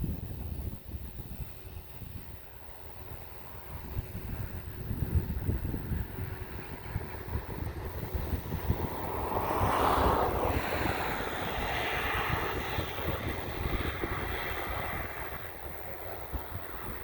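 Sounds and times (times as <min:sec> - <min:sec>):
jet engines roaring past: 0:00.0 - 0:17.0
wind buffeting microphone: 0:00.0 - 0:17.0.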